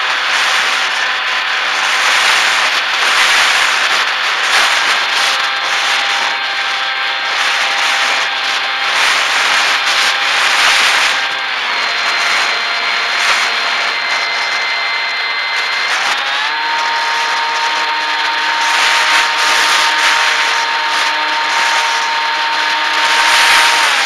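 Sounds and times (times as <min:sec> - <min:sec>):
faint electric motor hum: 0:00.0 - 0:24.0
high whine: 0:00.0 - 0:24.0
wind rushing over microphone: 0:00.0 - 0:24.0.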